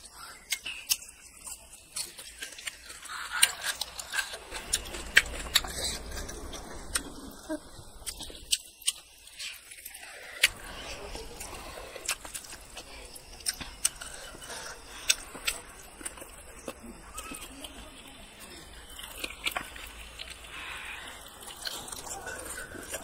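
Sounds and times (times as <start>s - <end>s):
wet chewing smacks: 0.0s - 23.0s.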